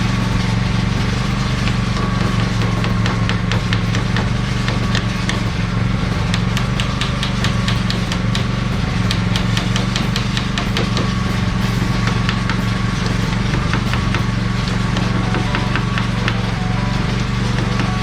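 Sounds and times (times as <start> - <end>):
belt sander humming: 0.0 - 18.0.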